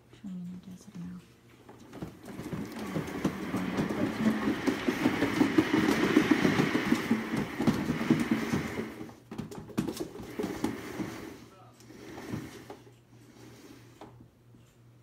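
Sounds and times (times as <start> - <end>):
cat exercise wheel spinning: 1.6 - 14.2.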